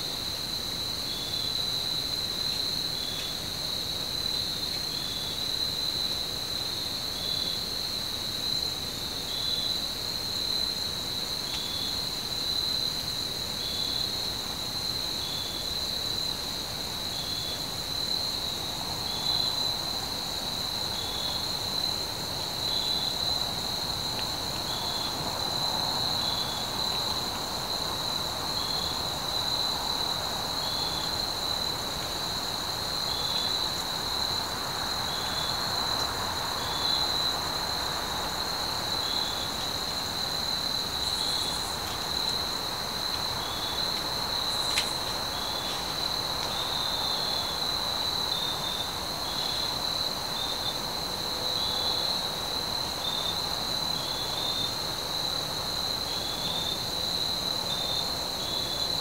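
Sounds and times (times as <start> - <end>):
crickets and insects chorus: 0.0 - 59.0.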